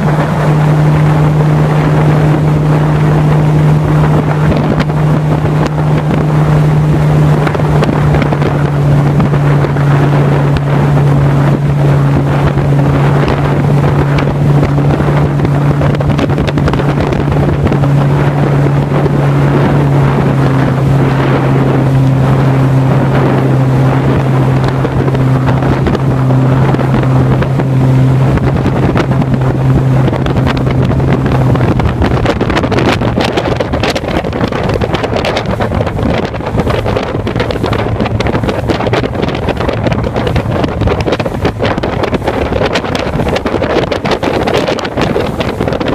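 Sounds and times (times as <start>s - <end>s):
boat motor humming: 0.0s - 45.9s
rushing water: 0.0s - 45.9s
wind buffeting microphone: 0.0s - 45.9s.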